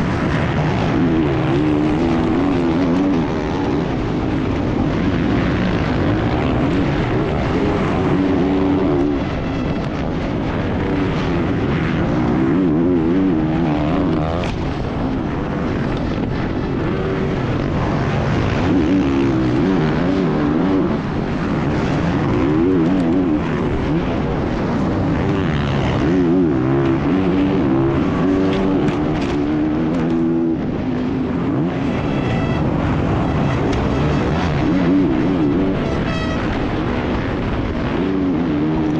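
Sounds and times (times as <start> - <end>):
dirt bike engine revving: 0.0 - 38.9
wind noise: 0.0 - 38.9.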